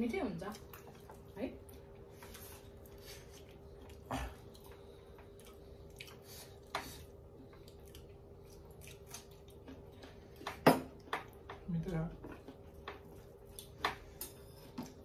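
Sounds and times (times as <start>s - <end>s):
faint steady hum: 0.0s - 15.0s
chewing and mouth noises: 0.4s - 11.6s, 12.3s - 15.0s.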